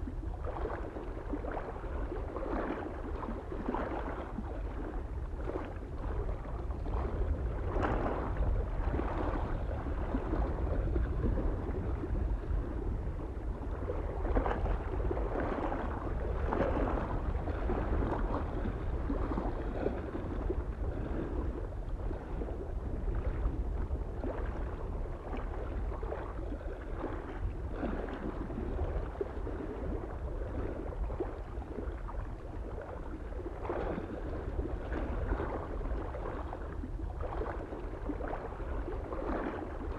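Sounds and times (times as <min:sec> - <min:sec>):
small waves lapping on shore: 0:00.0 - 0:39.9
wind rumble on microphone: 0:00.0 - 0:39.9.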